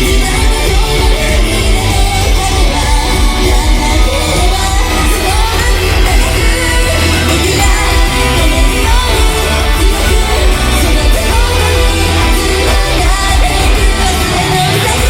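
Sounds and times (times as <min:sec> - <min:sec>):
group singing: 0:00.0 - 0:15.0
rock backing track: 0:00.0 - 0:15.0.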